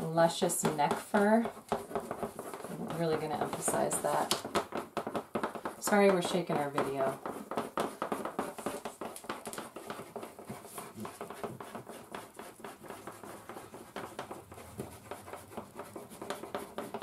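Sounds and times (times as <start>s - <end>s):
crayons scratching on paper: 0.0s - 17.0s.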